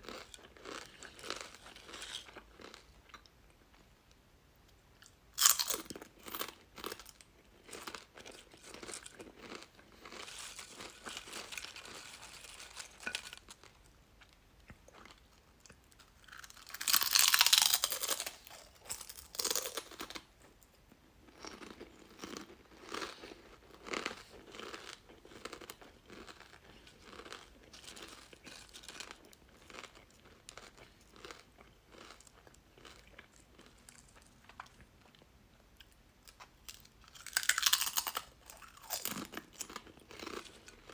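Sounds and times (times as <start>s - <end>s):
chips crunching and chewing: 0.0s - 3.3s, 5.0s - 13.9s, 14.9s - 20.3s, 21.2s - 35.2s, 35.8s - 40.9s.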